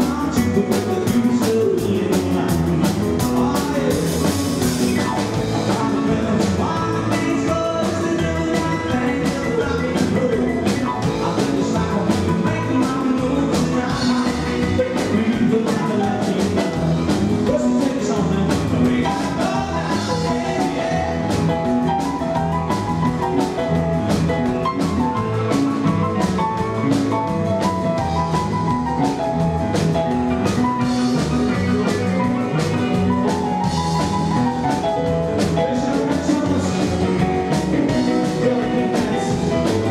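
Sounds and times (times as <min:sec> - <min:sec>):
drum kit steady beat: 0:00.0 - 0:39.9
stage keyboard piano: 0:00.0 - 0:39.9
upright double bass: 0:00.0 - 0:39.9.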